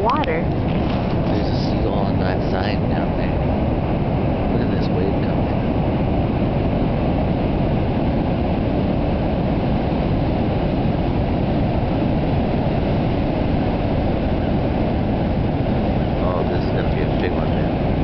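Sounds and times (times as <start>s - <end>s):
heavy ocean surf breaking: 0.0s - 18.0s.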